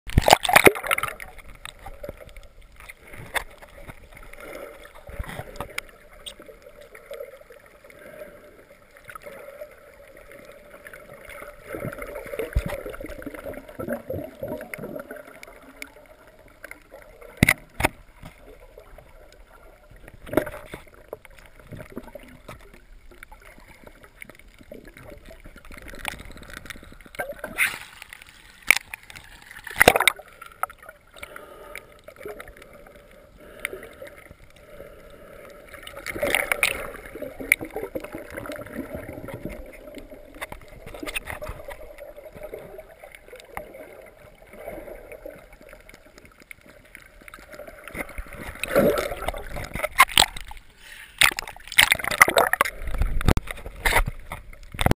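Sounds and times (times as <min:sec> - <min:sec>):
muffled underwater water wash: 0:00.1 - 0:54.9
water splashing and sloshing: 0:00.1 - 0:54.9.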